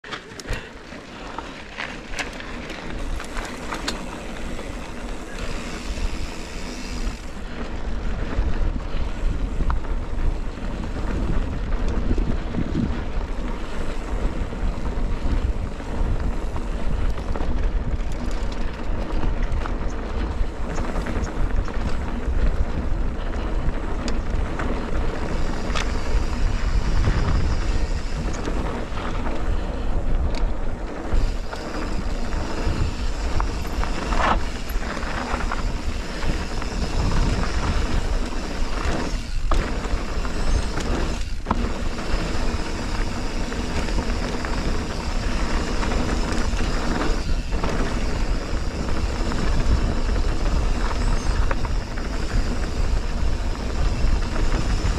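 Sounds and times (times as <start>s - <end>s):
mountain bike rumble and rattle: 0.0s - 54.9s
sharp knocks and clicks from bike: 0.0s - 54.9s
wind buffeting microphone: 0.3s - 54.9s.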